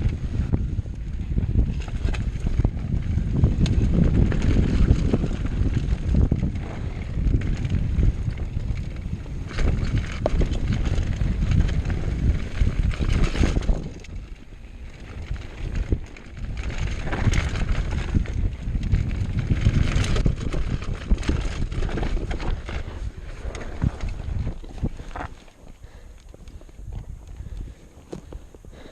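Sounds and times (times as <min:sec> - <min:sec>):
bike knocking and rattling: 0:00.0 - 0:28.9
tyres on rough trail: 0:00.0 - 0:28.9
wind noise on microphone: 0:00.0 - 0:28.9.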